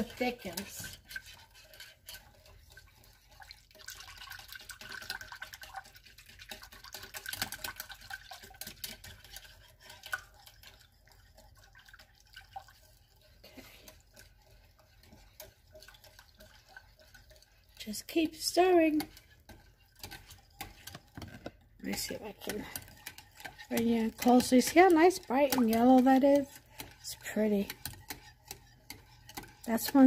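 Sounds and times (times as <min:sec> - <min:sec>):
whisk clicking against glass bowl: 0:00.0 - 0:13.2, 0:13.8 - 0:30.0.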